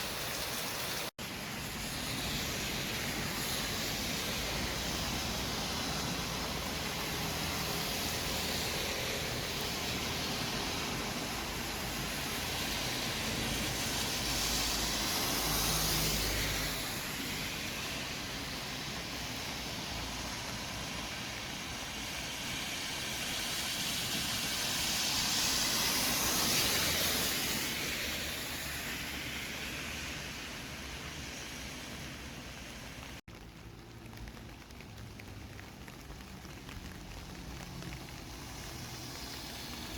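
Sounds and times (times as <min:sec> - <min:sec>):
city traffic noise: 0:00.0 - 0:39.9
vehicles passing: 0:00.0 - 0:39.9.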